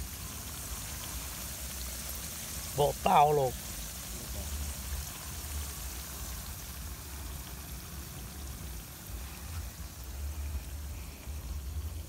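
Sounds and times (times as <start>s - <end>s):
plantain frying in hot oil: 0.0s - 12.0s.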